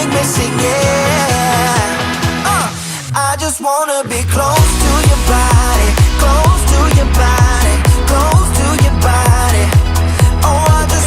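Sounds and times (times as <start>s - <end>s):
pop music with drum beat: 0.0s - 11.0s.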